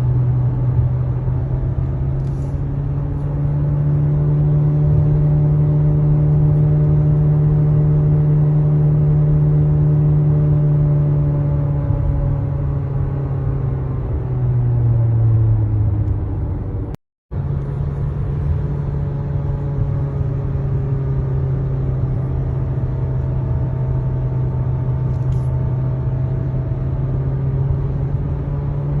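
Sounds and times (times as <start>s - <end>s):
car engine drone: 0.0s - 29.0s.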